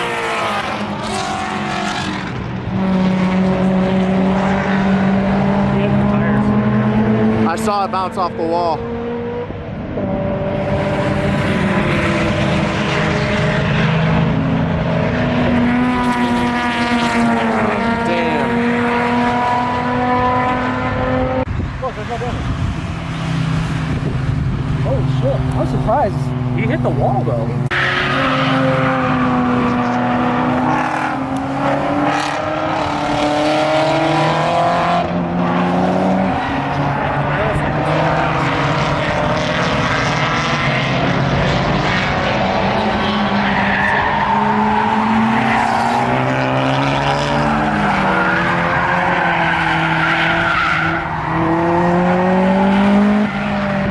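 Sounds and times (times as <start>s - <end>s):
race car engines passing: 0.0s - 53.9s.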